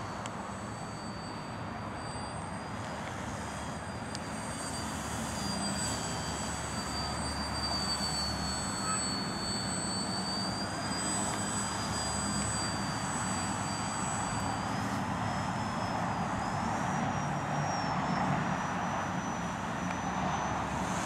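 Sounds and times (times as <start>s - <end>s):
model plane motor whining: 0.0s - 21.0s.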